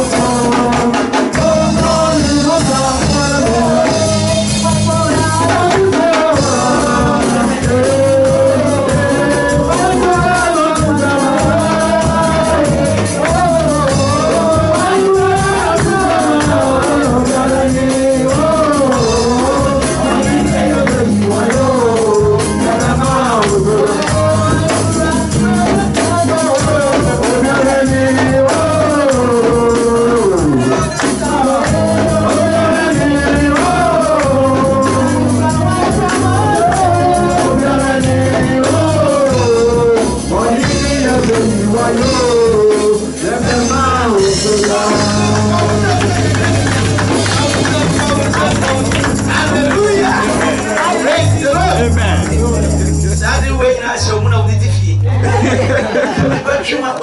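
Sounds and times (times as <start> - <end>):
percussion rattling: 0.0 - 54.6
band with drums: 0.0 - 56.6.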